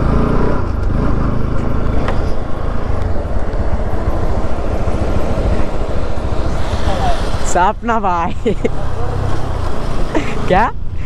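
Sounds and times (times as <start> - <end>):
motorcycle engine running: 0.0 - 10.8
road noise: 0.0 - 11.0
wind rush on microphone: 0.6 - 11.0.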